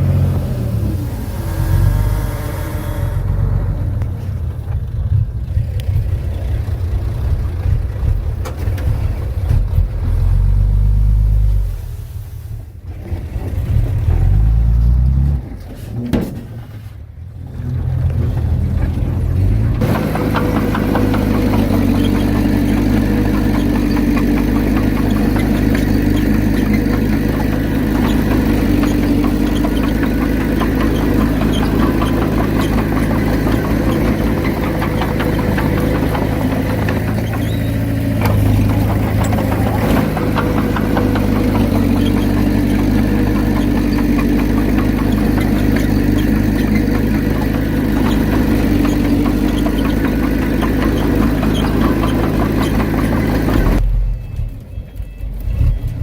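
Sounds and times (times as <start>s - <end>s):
heavy diesel engine running: 0.0s - 11.9s, 17.0s - 56.0s.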